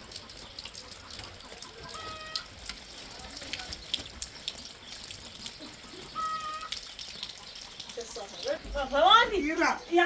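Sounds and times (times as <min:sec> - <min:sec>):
running water: 0:00.0 - 0:10.0.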